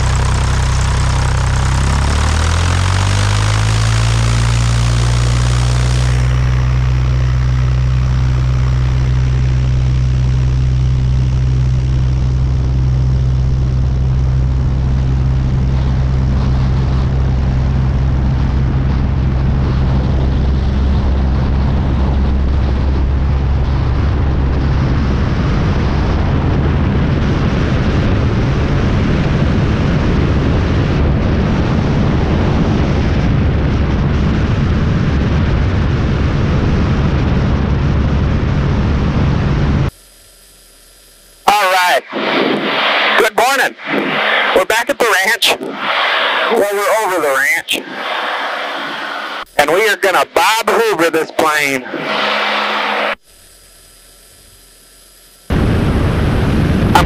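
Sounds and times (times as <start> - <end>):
propeller plane engine running: 0.0 - 57.0.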